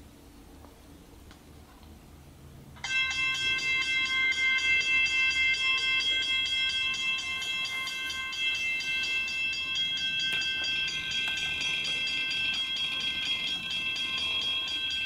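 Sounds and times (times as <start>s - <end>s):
level-crossing warning bell ringing: 2.8s - 15.0s.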